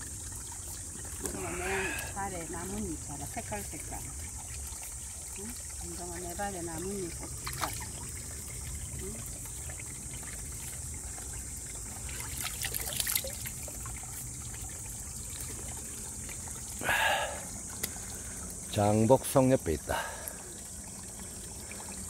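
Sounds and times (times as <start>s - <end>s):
stream trickling over rocks: 0.0s - 22.0s.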